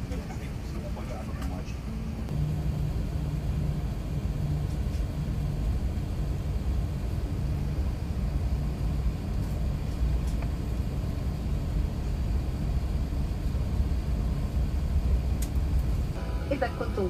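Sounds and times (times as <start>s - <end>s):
aircraft cabin rumble: 0.0s - 17.0s
low hum: 1.6s - 17.0s.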